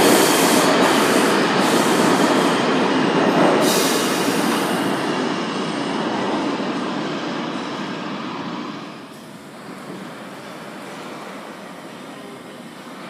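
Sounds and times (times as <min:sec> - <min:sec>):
high hiss of train: 0:00.0 - 0:13.0
subway train rumbling on rails: 0:00.0 - 0:13.0.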